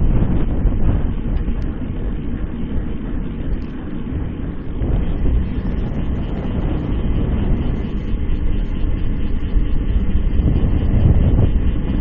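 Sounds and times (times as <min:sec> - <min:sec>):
bike tyre and road rumble: 0:00.0 - 0:12.0
wind rushing over microphone: 0:00.0 - 0:12.0.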